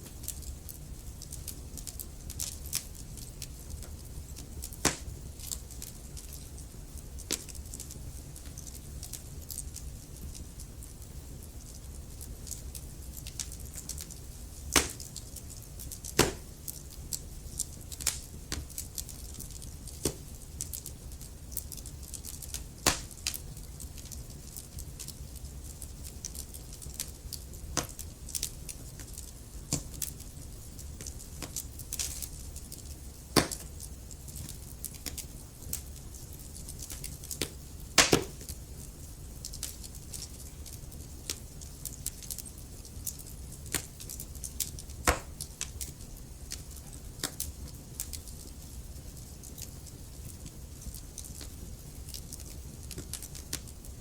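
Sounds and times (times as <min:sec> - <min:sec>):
fire crackling and popping: 0:00.0 - 0:54.0
low steady fire rumble: 0:00.0 - 0:54.0.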